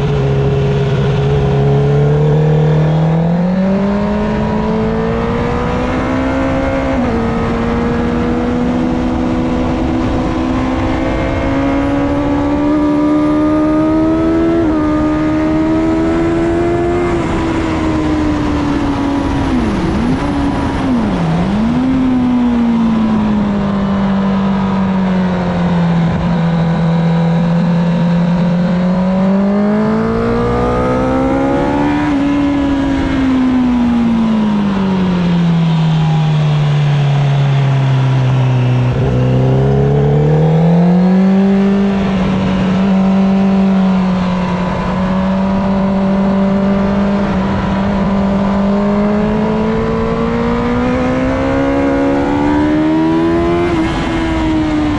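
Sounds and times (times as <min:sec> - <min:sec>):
motorcycle engine at speed: 0:00.0 - 0:54.9
wind noise: 0:00.0 - 0:54.9.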